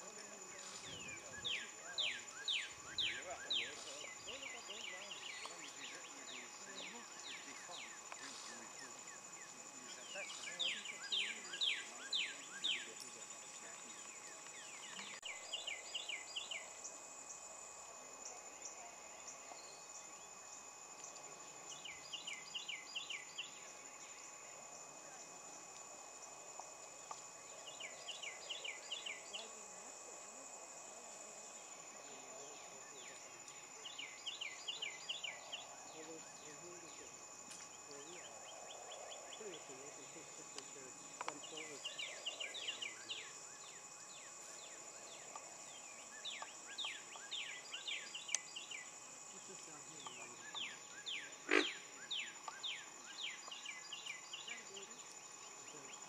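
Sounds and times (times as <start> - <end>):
high-pitched whine and hiss: 0.0 - 56.0
insect chorus drone: 0.0 - 56.0.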